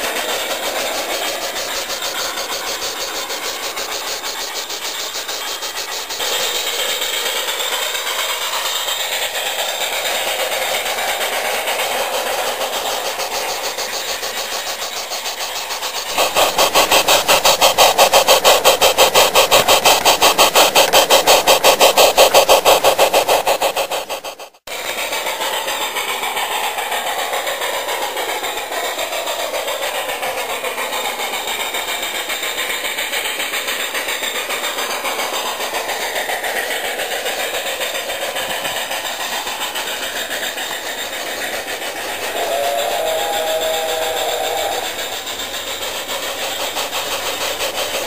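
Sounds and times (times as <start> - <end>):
model train rhythmic beat: 0.0 - 48.0.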